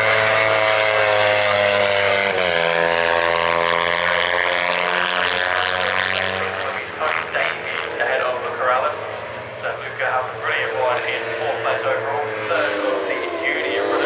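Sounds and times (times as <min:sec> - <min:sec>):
race motorcycle engine revving: 0:00.0 - 0:14.0.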